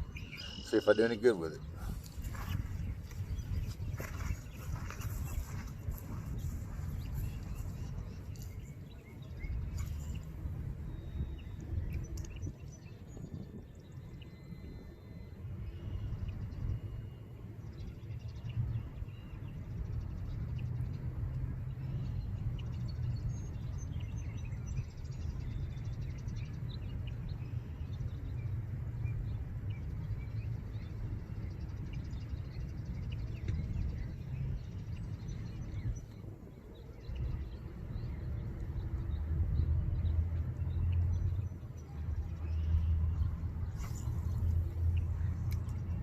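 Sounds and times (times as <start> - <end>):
small birds chirping: 0.0 - 21.0, 21.6 - 46.0
steady low rumble: 0.0 - 46.0.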